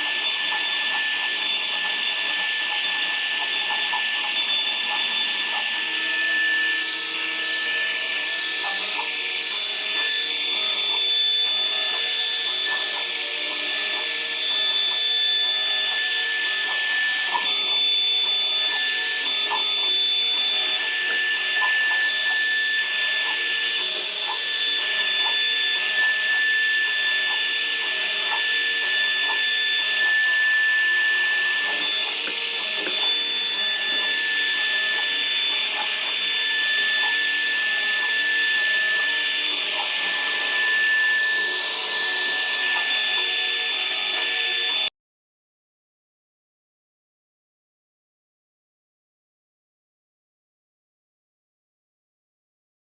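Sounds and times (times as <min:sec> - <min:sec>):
power tool whining: 0:00.0 - 0:44.9.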